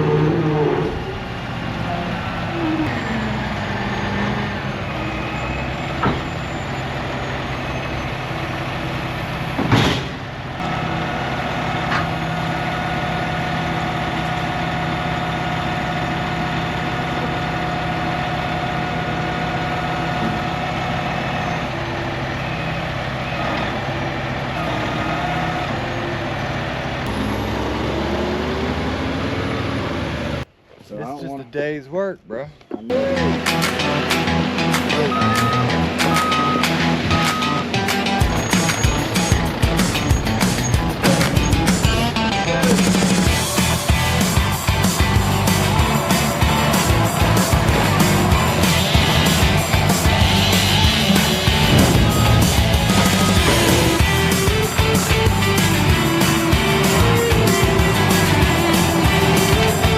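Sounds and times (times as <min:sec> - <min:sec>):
large engine running: 0:00.0 - 0:30.5, 0:32.9 - 0:59.9.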